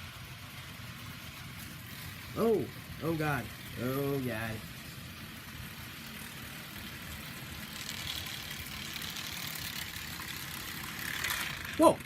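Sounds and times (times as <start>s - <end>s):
model train motor hum: 0.0s - 12.0s
wheels rumbling on rails: 0.0s - 12.0s.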